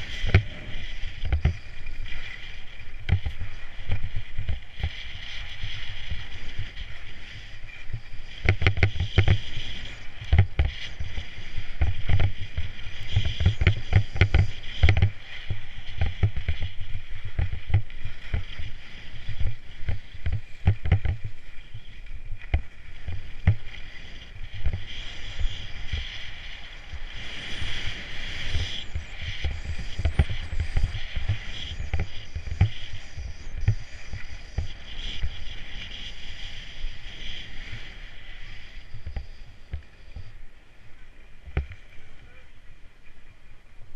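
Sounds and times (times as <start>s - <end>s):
low thumps of skis: 0.0s - 35.8s
skis scraping over snow: 0.0s - 43.9s.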